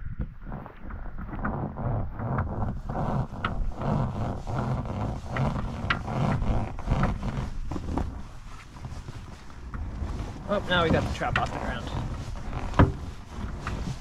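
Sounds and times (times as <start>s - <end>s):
low rumble: 0.0s - 14.0s
rope scraping rubber tube: 0.1s - 14.0s.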